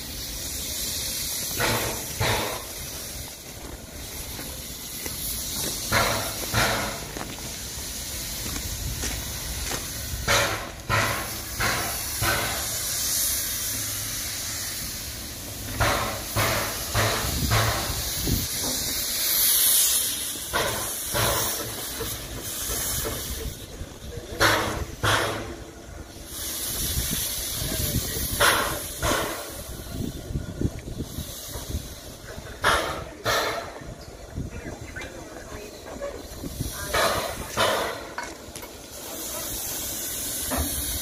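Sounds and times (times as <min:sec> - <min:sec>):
short steam whooshes: 0:00.0 - 0:34.0, 0:38.8 - 0:41.0
steam locomotive hissing: 0:00.0 - 0:41.0.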